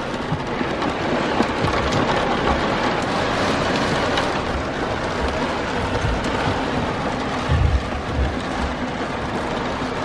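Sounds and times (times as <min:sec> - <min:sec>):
heavy rain on a car roof: 0:00.0 - 0:10.0.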